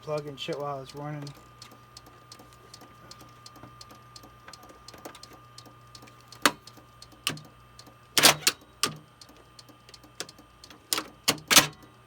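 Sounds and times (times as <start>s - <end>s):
computer humming: 0.0s - 12.0s.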